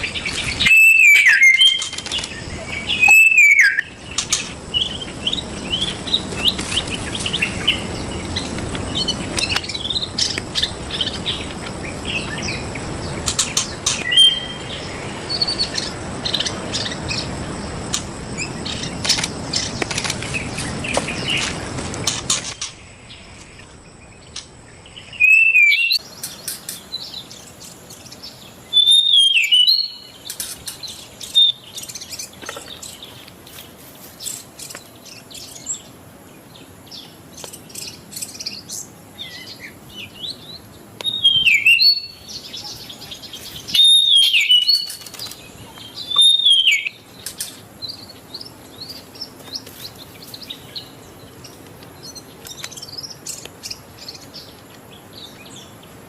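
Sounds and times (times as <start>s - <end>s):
bird singing gliding notes: 0.0s - 56.0s
soft bird chirps and twitters: 0.0s - 56.0s.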